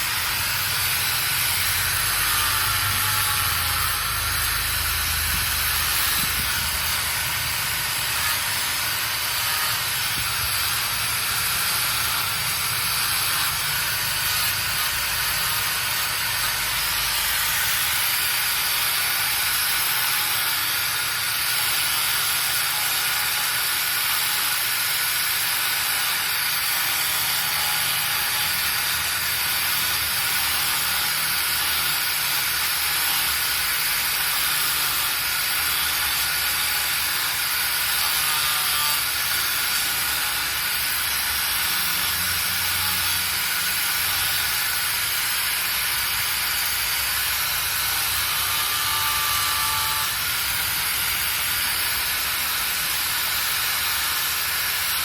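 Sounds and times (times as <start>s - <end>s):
loud steady hiss: 0.0s - 55.0s.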